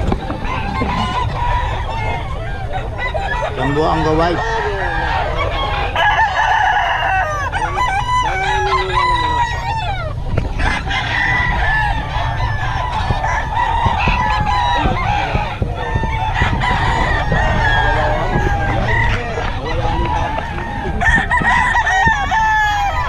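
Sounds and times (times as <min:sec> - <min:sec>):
chickens clucking: 0:00.0 - 0:23.0
low background rumble: 0:00.0 - 0:23.0
roosters crowing: 0:00.0 - 0:23.0.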